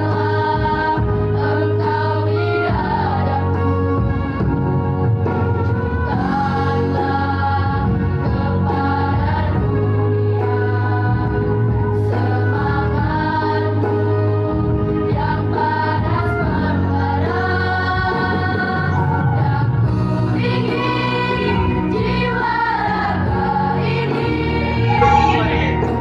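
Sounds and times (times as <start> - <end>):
girls choir singing: 0.0 - 3.5, 6.1 - 11.3, 12.2 - 14.1, 15.1 - 26.0.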